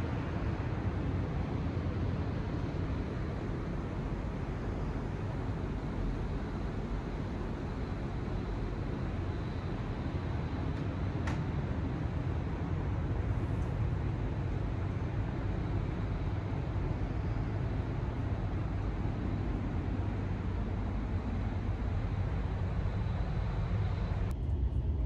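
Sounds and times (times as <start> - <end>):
train rumble from inside car: 4.9 - 25.0.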